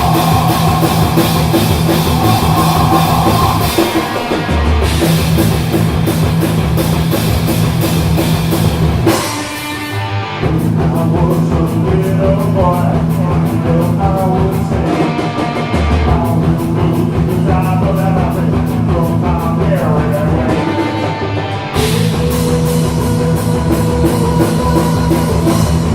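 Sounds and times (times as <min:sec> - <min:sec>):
fast drumming: 0:00.0 - 0:21.1, 0:21.7 - 0:25.9
distorted low guitar notes: 0:00.0 - 0:25.9
rock band playing: 0:00.0 - 0:25.9.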